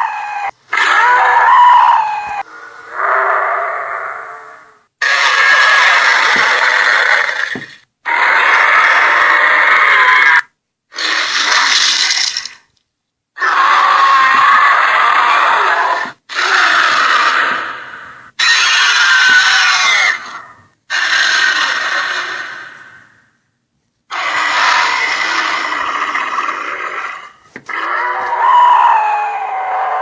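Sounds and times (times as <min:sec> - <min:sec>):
harsh dinosaur roars: 0:00.8 - 0:10.4, 0:13.4 - 0:23.1, 0:24.1 - 0:30.0.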